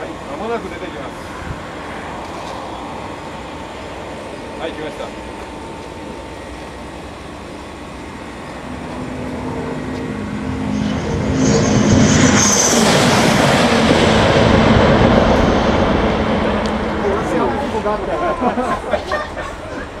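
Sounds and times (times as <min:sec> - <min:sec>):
train passing with rushing roar: 0:00.0 - 0:20.0.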